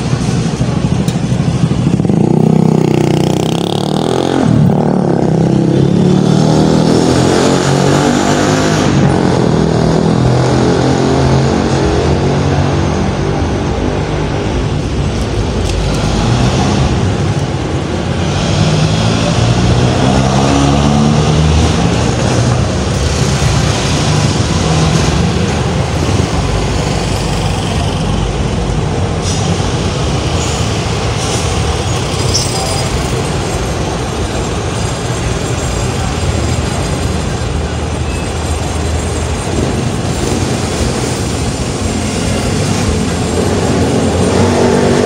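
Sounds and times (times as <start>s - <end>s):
street traffic noise: 0.0s - 45.0s.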